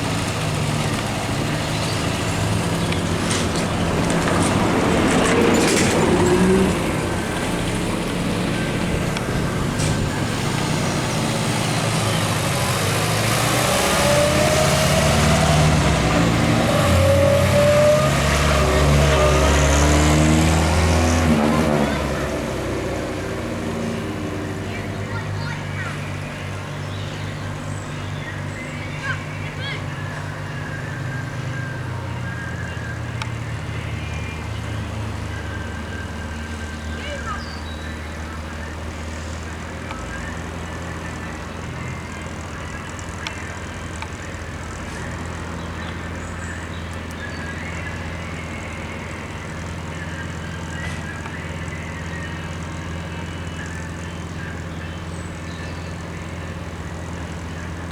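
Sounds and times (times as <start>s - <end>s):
car engines accelerating: 0.0s - 57.9s.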